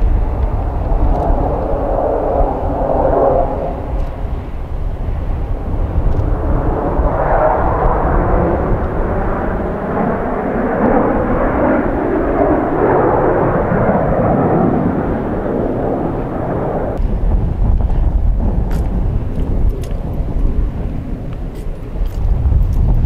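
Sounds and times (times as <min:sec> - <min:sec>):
fighter jets roaring: 0:00.0 - 0:22.0
low rumble: 0:00.0 - 0:23.0.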